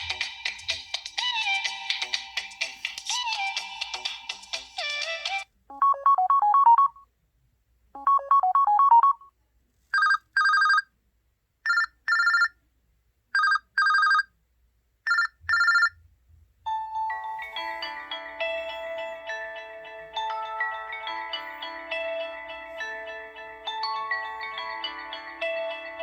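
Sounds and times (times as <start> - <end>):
phone ringtone melody: 0.0 - 7.0, 8.0 - 9.3, 10.0 - 10.8, 11.7 - 12.5, 13.4 - 14.2, 15.1 - 15.9, 16.7 - 26.0.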